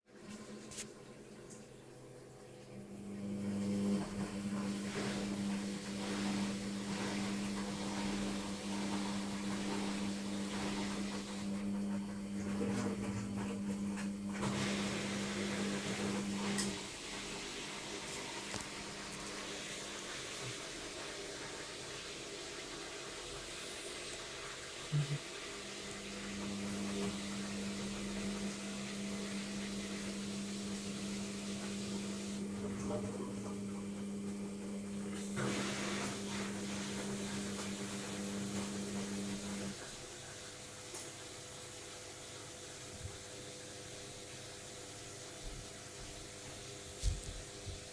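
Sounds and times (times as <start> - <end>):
washing machine spinning: 0.0 - 47.9.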